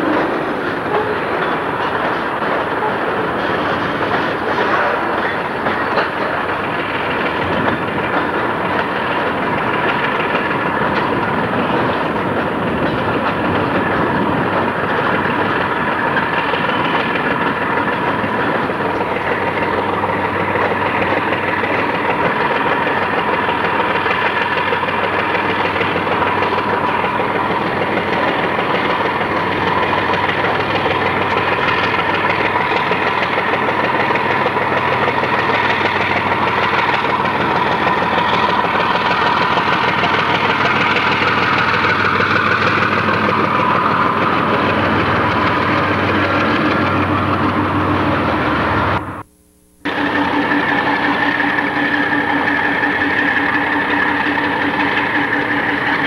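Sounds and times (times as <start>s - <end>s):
train wheels clattering on rails: 0.0s - 49.0s, 49.9s - 56.0s
diesel locomotive drone: 0.0s - 56.0s.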